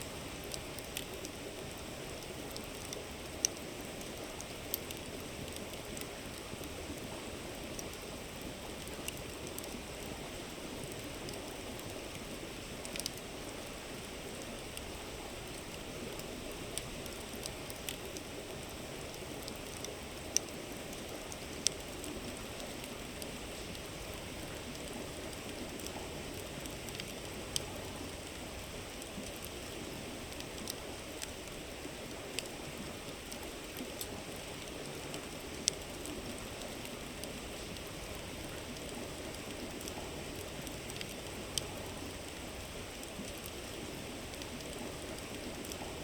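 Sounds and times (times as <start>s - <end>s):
wood campfire crackling: 0.0s - 46.0s.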